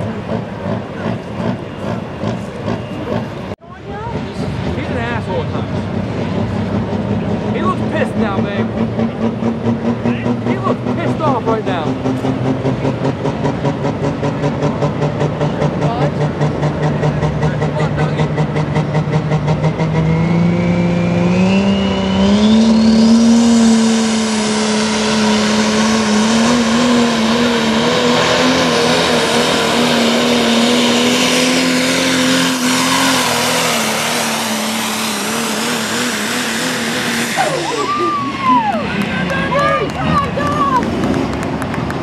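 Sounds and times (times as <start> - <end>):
truck engine at full power: 0.0 - 42.0.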